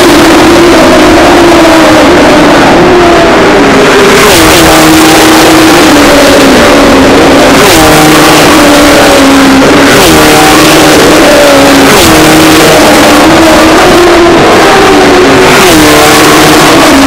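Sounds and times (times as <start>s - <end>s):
race car engines passing by: 0.0s - 17.0s.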